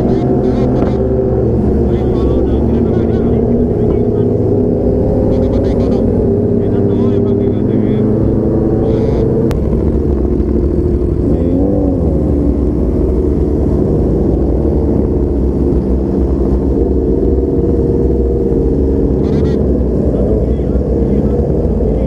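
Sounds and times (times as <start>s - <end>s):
motorcycle engine running: 0.0s - 22.0s
wind rumble on microphone: 0.0s - 22.0s.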